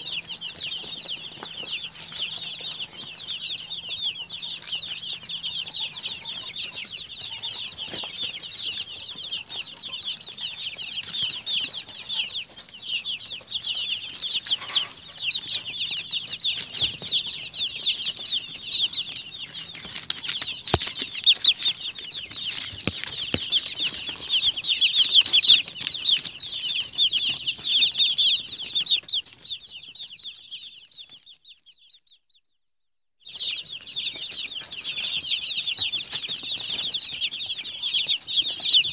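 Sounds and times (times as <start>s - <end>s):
chicks peeping: 0.0s - 32.4s, 33.2s - 38.9s.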